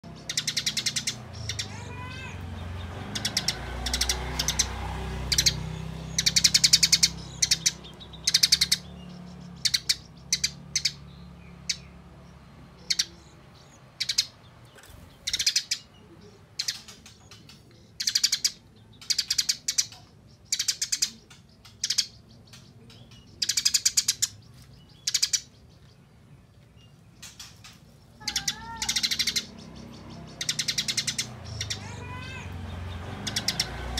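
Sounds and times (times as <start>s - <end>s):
sparrow chattering: 0.0s - 33.9s.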